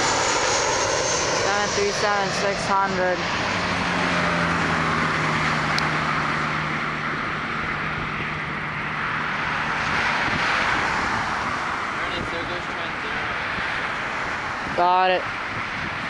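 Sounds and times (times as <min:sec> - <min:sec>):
jet airliner passing: 0:00.0 - 0:16.0.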